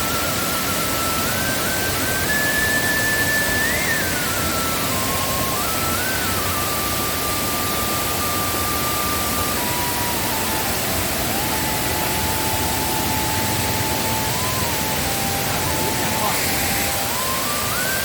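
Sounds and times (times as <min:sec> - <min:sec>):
faint wavering thin tone: 0:00.0 - 0:18.0
waterfall roaring: 0:00.0 - 0:18.0.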